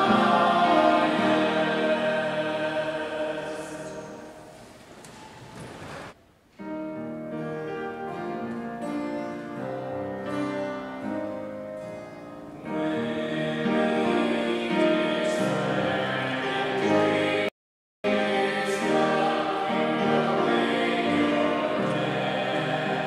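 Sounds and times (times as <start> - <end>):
church choir singing: 0.0 - 5.1, 7.7 - 17.5, 18.1 - 23.0.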